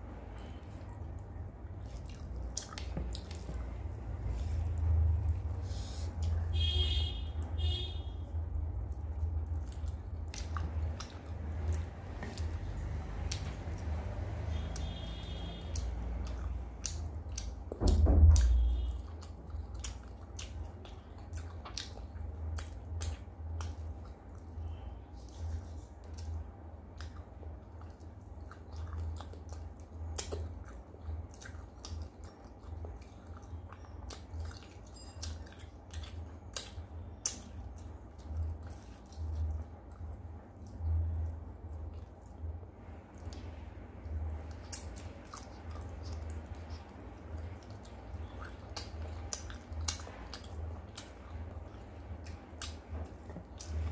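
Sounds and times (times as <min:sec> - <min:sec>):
person chewing with mouth smacking: 0:00.2 - 0:06.7, 0:08.3 - 0:53.9.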